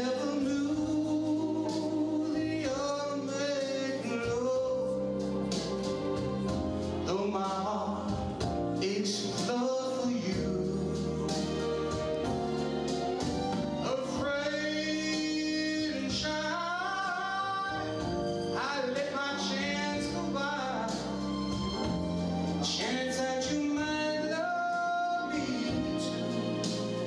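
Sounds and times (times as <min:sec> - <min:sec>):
man singing a ballad: 0:00.0 - 0:05.8, 0:07.0 - 0:11.6, 0:13.7 - 0:21.2, 0:22.5 - 0:27.0
instrumental accompaniment: 0:00.0 - 0:27.0.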